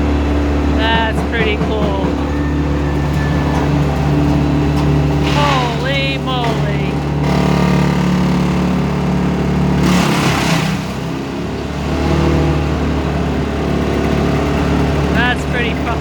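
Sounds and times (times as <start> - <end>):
large engine running: 0.0 - 16.0.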